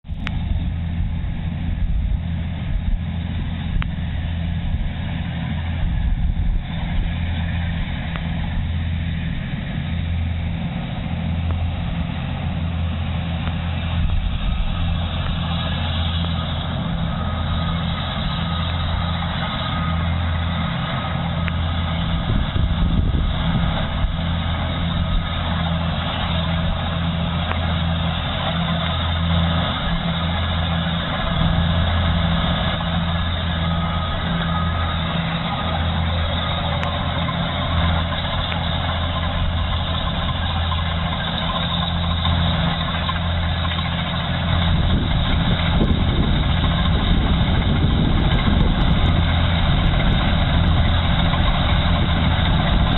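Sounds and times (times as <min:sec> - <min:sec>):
combine harvester engine humming: 0:00.0 - 0:52.9
faint high whine: 0:00.1 - 0:52.9.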